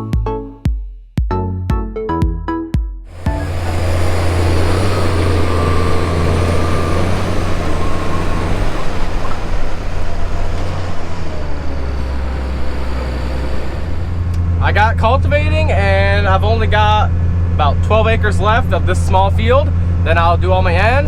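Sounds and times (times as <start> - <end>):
tractor engine under load: 3.1 - 21.0.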